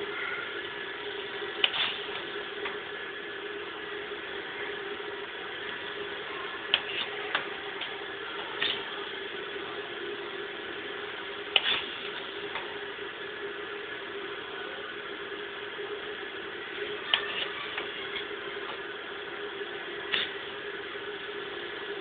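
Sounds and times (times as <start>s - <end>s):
steady electric hum: 0.0s - 22.0s.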